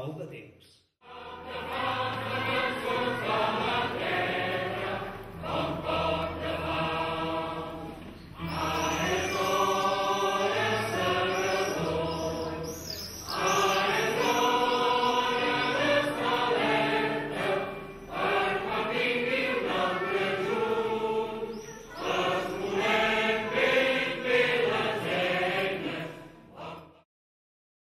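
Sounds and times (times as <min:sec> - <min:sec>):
mixed choir singing: 0:01.0 - 0:27.1.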